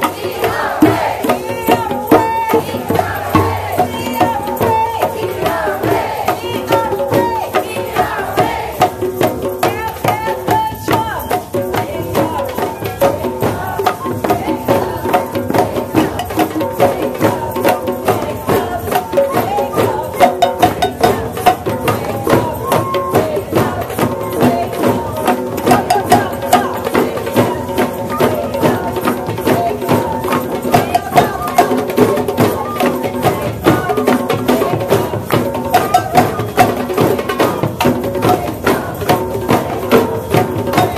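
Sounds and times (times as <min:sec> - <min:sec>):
hand drums playing fast rhythm: 0:00.0 - 0:40.9
voices singing or chanting: 0:00.0 - 0:40.9.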